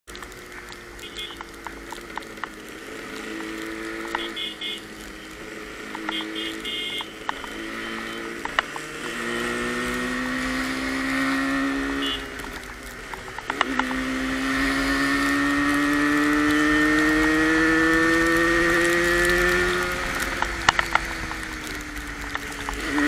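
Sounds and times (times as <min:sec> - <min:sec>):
wind and road noise: 0:00.0 - 0:23.0
two-stroke engine accelerating: 0:00.2 - 0:23.0.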